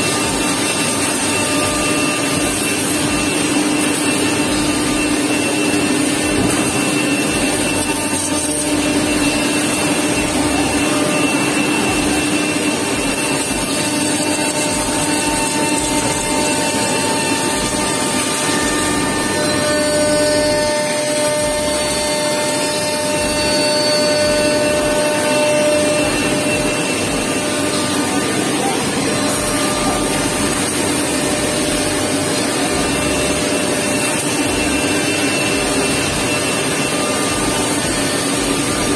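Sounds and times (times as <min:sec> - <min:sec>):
cnc router milling wood: 0:00.0 - 0:38.9
steady whining tones: 0:00.0 - 0:38.9.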